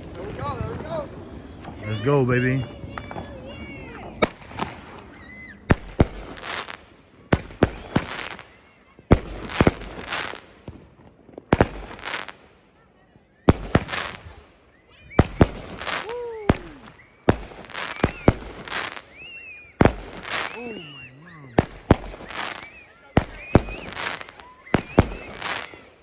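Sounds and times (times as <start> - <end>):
firework bangs: 0.0 - 12.8, 13.4 - 26.0
firework crackle: 0.0 - 12.8, 13.4 - 26.0.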